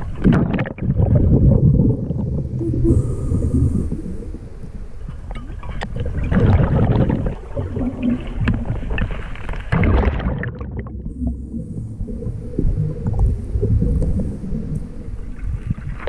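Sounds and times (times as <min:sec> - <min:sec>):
diver exhaling bubbles underwater: 0:00.0 - 0:16.0
low underwater rumble: 0:00.0 - 0:16.0.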